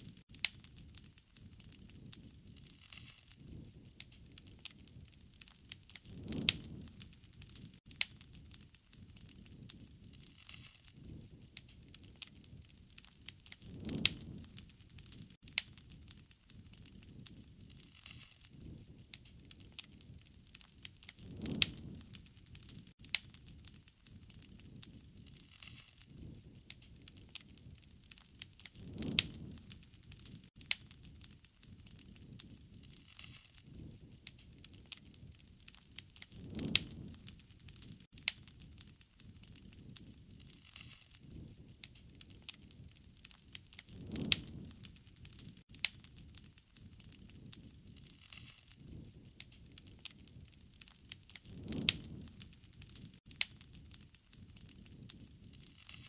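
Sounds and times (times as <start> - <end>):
bonfire crackling: 0.0 - 56.0
deep whoosh of fire: 0.0 - 56.0.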